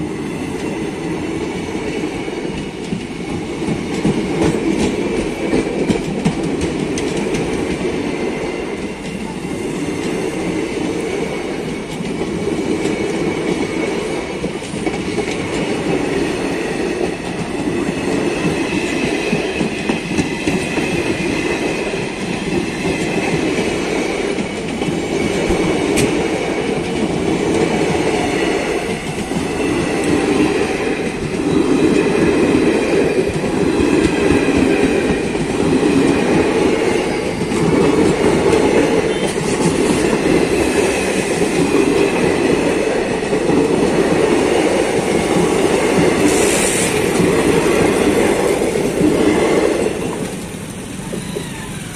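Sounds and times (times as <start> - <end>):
train wheels on rails: 0.0 - 51.9.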